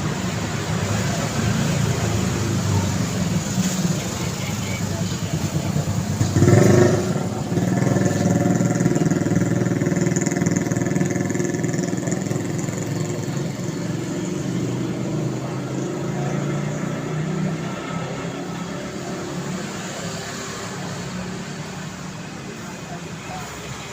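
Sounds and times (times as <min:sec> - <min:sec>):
vehicle engine running: 0:00.0 - 0:19.8.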